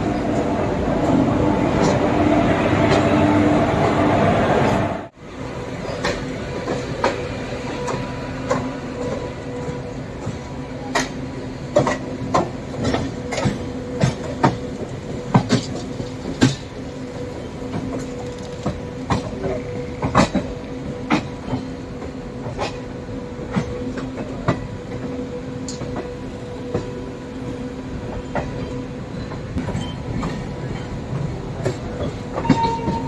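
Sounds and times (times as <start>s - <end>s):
train wheels clacking over track: 0.0s - 33.0s.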